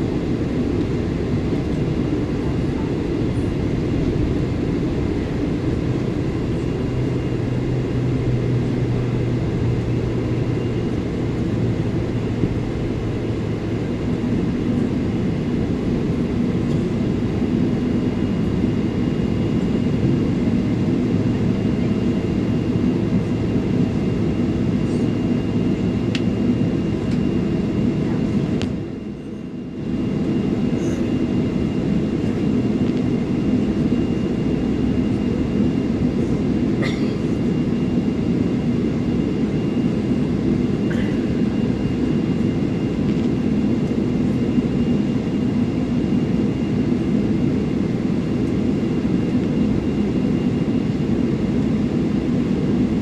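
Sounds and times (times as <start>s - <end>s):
aircraft cabin rumble: 0.0s - 53.0s
faint engine hums: 0.0s - 53.0s.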